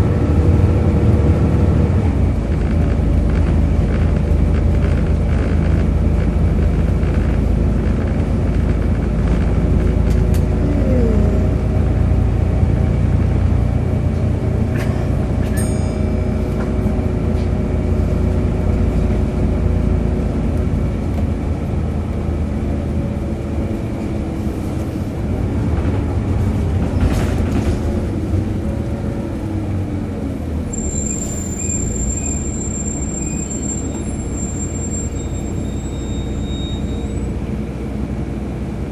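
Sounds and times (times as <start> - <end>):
diesel bus engine droning: 0.0 - 38.9.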